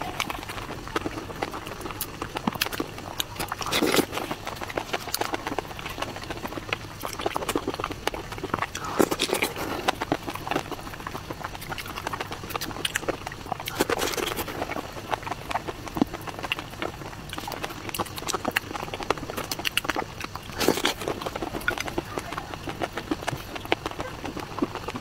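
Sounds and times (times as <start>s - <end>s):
chewing: 0.0s - 25.0s.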